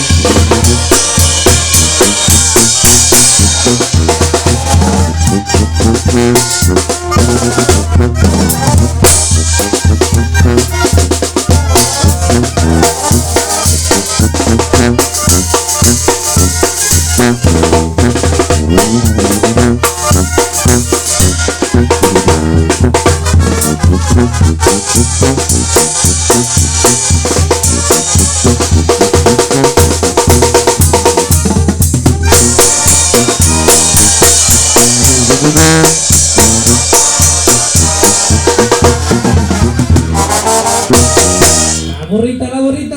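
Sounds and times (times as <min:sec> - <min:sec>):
brass and woodwinds: 0:00.0 - 0:42.1
drum beat with snare: 0:00.0 - 0:42.1
heavy bass line: 0:00.0 - 0:42.6.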